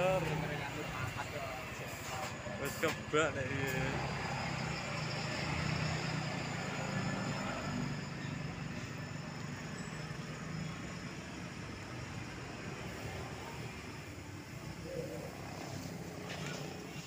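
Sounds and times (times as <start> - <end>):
truck diesel engine driving past: 0.0 - 17.0.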